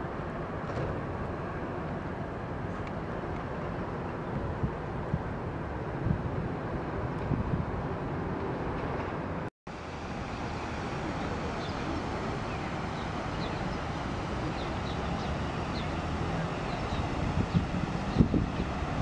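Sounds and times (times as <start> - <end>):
wind noise on microphone: 0.0 - 9.4, 11.9 - 19.0
road traffic: 0.0 - 19.0.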